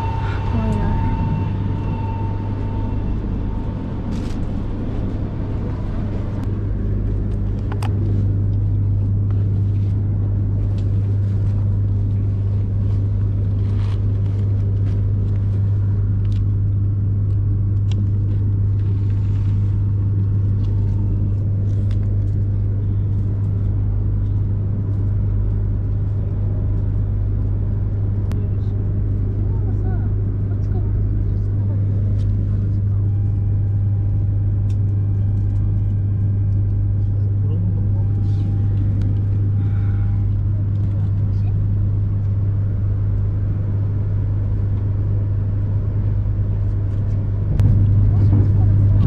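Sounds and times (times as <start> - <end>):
train interior hum and rumble: 0.0 - 49.0.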